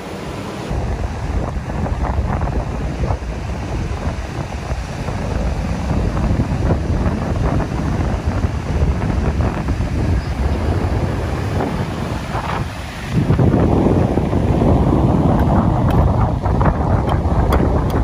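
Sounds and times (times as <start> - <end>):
ocean surf washing: 0.0 - 18.0
wind buffeting microphone: 0.7 - 18.0.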